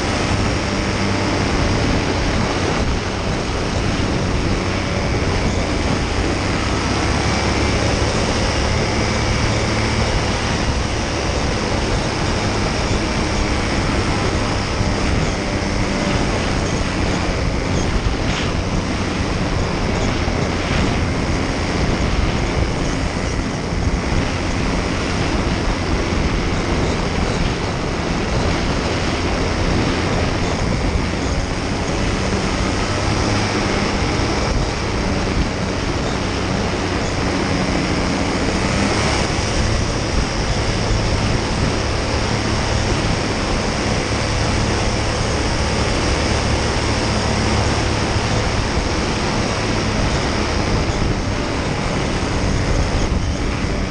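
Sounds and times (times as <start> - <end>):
paramotor engine drone: 0.0 - 53.9
wind rush on microphone: 0.0 - 53.9.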